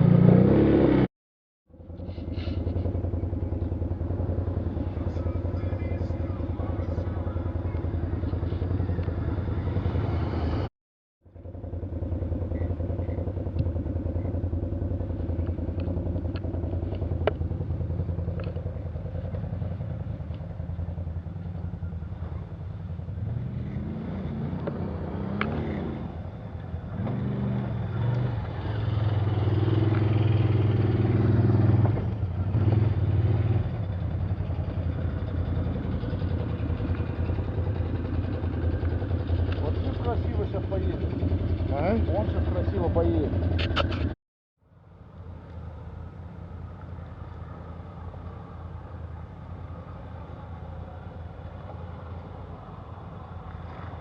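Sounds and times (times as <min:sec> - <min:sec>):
vehicle engine running: 0:01.7 - 0:54.0.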